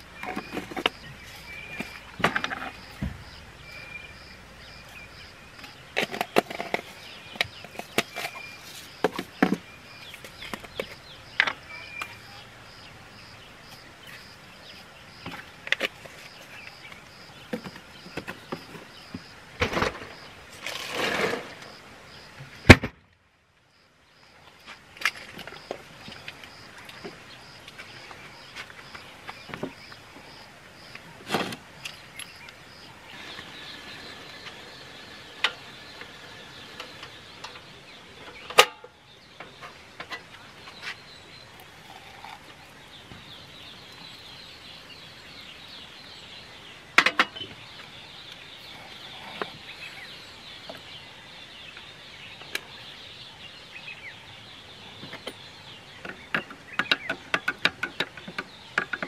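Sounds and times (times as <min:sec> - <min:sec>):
outdoor chirping: 0:00.0 - 0:59.0.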